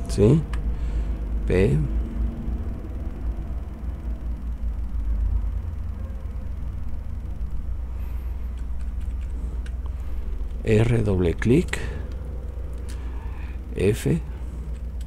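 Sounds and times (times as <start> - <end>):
faint hum: 0.0 - 15.0
low background rumble: 0.0 - 15.0.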